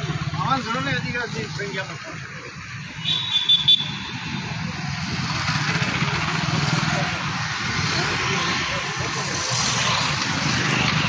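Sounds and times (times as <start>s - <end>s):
motorcycles and scooters passing: 0.0s - 3.0s, 3.8s - 11.0s.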